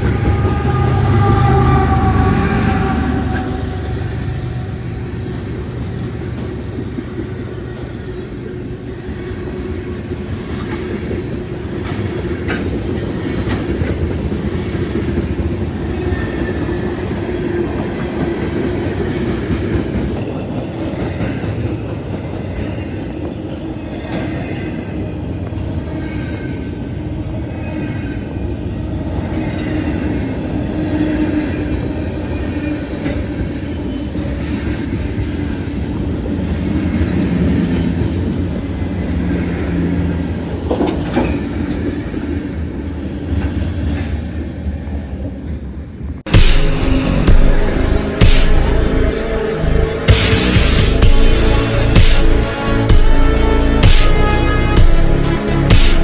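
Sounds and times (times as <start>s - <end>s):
freight train wheels rumbling on track: 0.0s - 56.0s.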